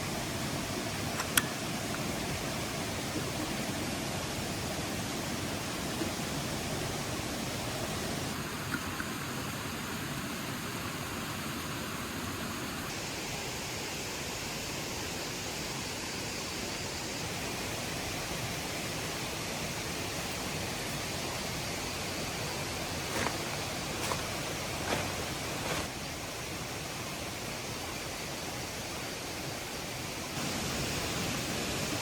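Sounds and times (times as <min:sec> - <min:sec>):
hissing rush of noise: 0:00.0 - 0:32.0.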